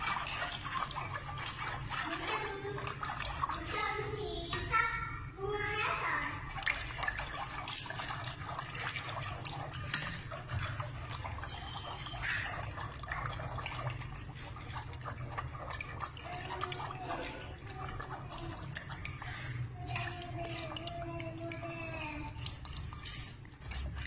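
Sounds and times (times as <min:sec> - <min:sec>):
liquid swishing in a pot: 0:00.0 - 0:24.0.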